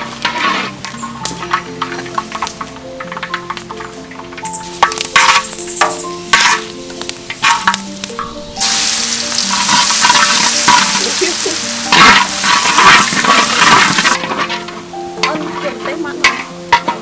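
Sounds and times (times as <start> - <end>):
garlic sizzling in oil: 0.0 - 17.0
spatula scraping wok: 0.0 - 17.0.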